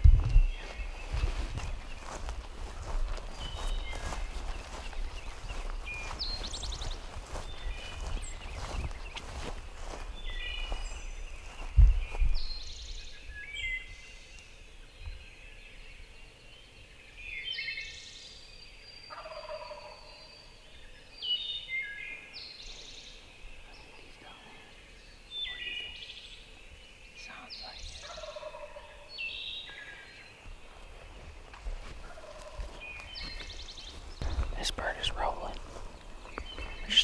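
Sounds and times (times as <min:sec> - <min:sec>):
birds calling: 0:00.0 - 0:37.0.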